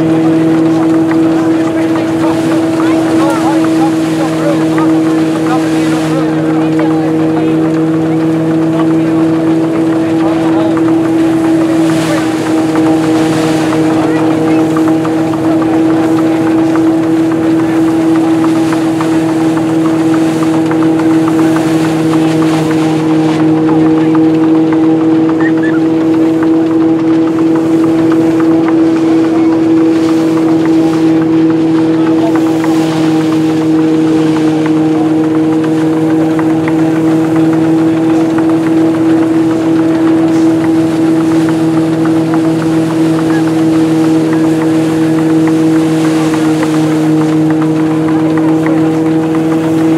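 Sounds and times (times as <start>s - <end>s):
fine continuous rattle: 0.0s - 49.9s
threshing mill humming: 0.0s - 49.9s.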